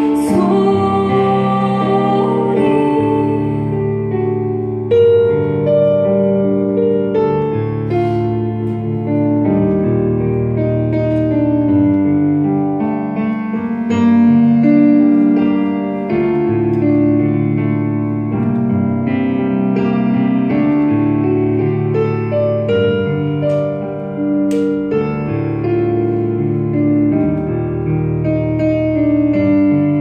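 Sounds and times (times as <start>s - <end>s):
slow piano chords: 0.0s - 30.0s.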